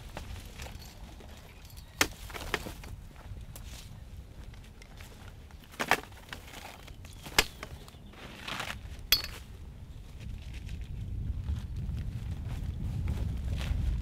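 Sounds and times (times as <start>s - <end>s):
wind rumble on microphone: 0.0s - 5.6s, 6.9s - 14.0s.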